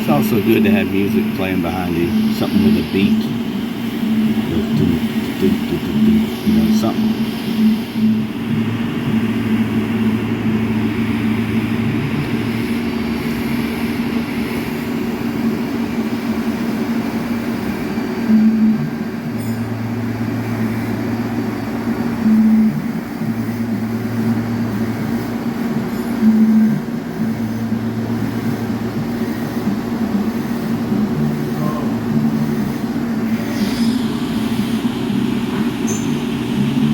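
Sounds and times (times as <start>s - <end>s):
welding arc buzzing and hissing: 0.0s - 36.9s.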